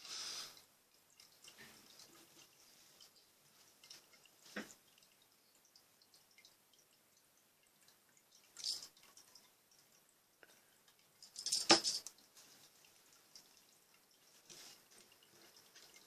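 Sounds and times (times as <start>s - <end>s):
small wet clicks: 0.6s - 16.0s.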